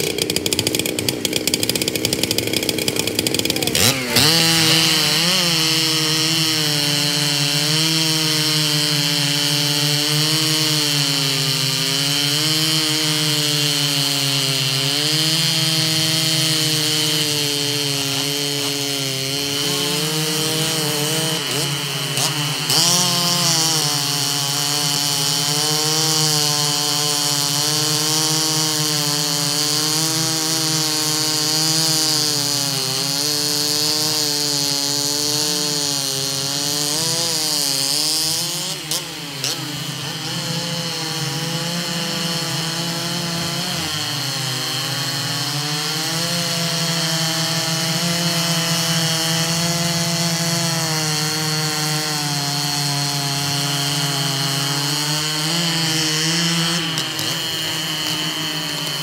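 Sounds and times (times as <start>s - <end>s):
chainsaws ripping logs: 0.0s - 59.0s.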